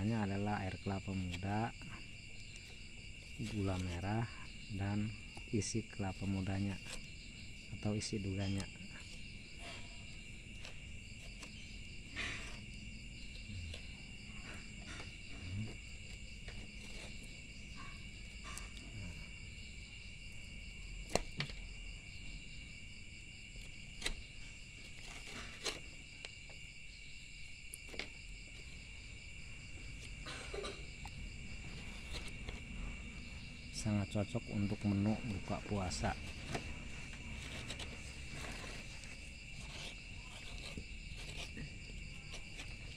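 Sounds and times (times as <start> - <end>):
crickets chirping: 0.0 - 42.9
scraping coconut flesh: 0.0 - 42.9.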